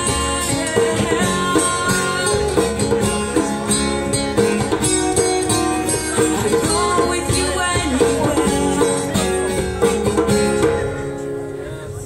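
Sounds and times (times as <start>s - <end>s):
acoustic guitars strumming: 0.0s - 12.0s
hand drum strokes: 0.0s - 12.0s.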